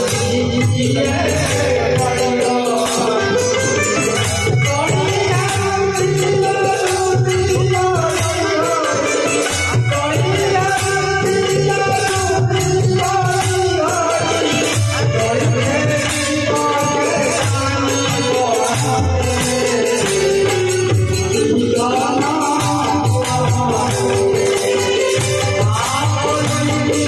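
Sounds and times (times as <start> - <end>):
man singing devotional song: 0.0 - 27.0
tabla playing: 0.0 - 27.0.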